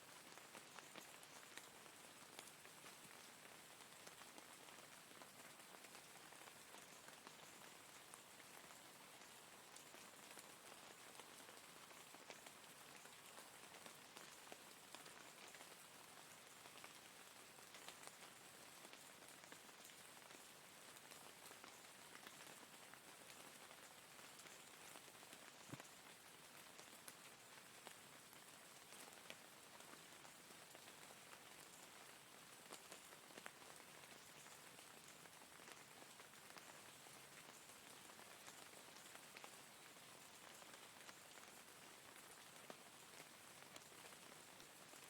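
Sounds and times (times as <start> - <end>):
faint rain hiss: 0.0 - 45.0.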